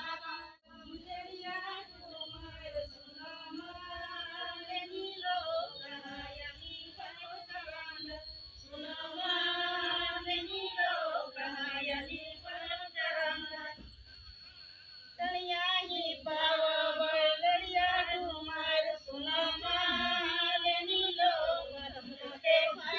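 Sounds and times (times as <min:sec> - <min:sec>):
women singing folk song: 0:00.0 - 0:14.2, 0:15.1 - 0:22.9.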